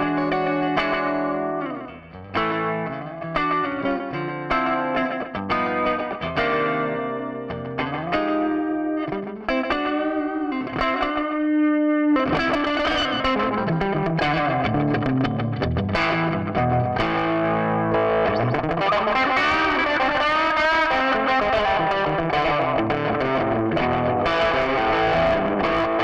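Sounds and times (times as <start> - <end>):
electric guitar chords and notes: 0.0 - 26.0.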